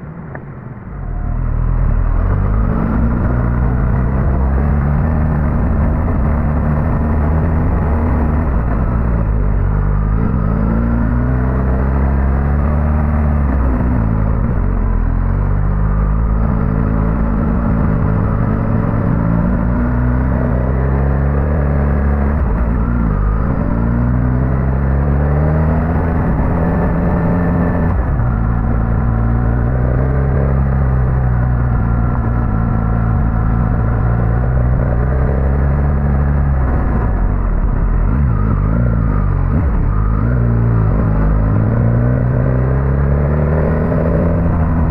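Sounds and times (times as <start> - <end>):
motorcycle engine revving: 0.9 - 44.9.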